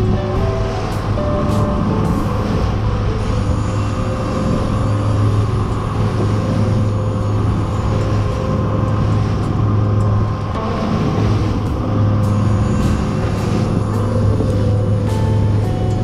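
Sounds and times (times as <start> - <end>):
outboard motor droning: 0.0 - 16.0
water rushing along hull: 0.0 - 16.0.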